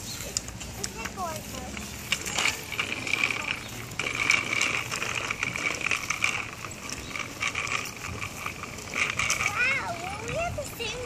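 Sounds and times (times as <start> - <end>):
bicycle wheels rattling on asphalt: 0.0 - 11.0
small irregular clicks: 0.0 - 11.0.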